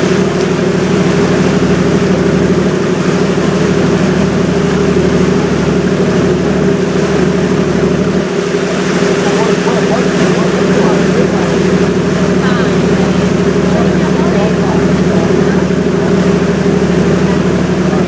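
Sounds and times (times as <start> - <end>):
ship engine humming: 0.0 - 18.0.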